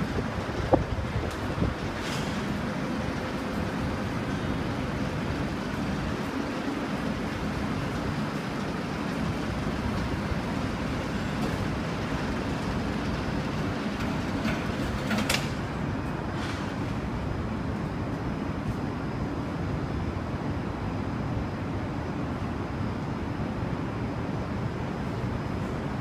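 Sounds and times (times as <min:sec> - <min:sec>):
low rumbling background noise: 0:00.0 - 0:26.0.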